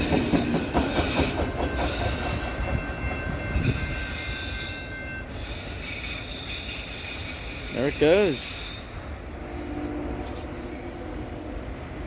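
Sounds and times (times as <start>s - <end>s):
wheels squealing on rail: 0.0s - 11.6s
freight train rumbling past: 0.0s - 12.0s.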